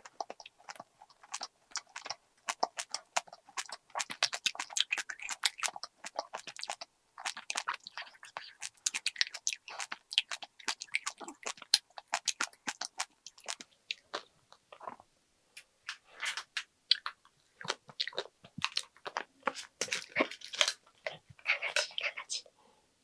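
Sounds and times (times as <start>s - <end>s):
chewing with wet mouth clicks: 0.0s - 15.0s, 16.9s - 22.4s.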